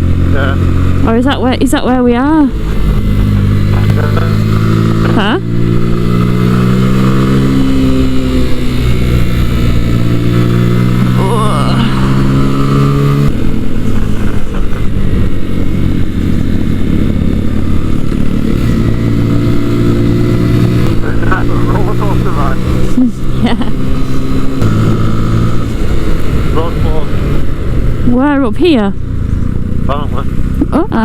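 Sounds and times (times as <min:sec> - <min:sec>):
motorcycle engine pulling steadily: 0:00.0 - 0:31.0.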